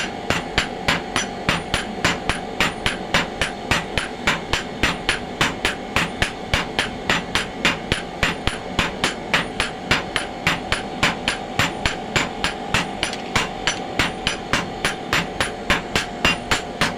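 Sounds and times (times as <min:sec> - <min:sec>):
hammer striking metal on anvil: 0:00.0 - 0:16.9
steady hum: 0:00.0 - 0:16.9.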